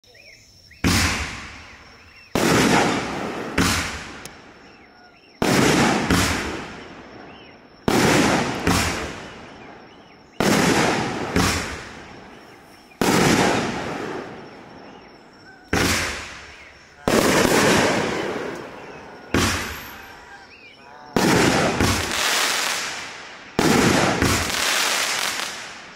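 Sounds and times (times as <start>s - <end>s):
firework bangs: 0.8s - 4.8s, 5.4s - 25.9s.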